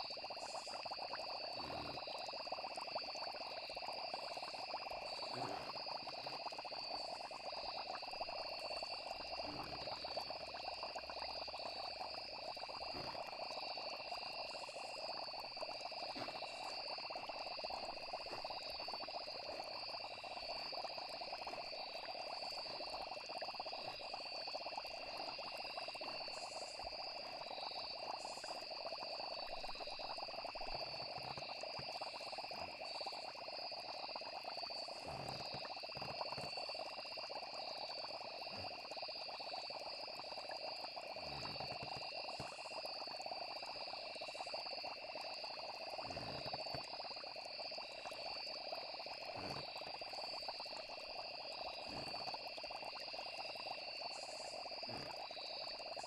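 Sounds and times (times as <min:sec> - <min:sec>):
crickets chirping: 0:00.0 - 0:56.0
frogs calling: 0:00.0 - 0:56.0.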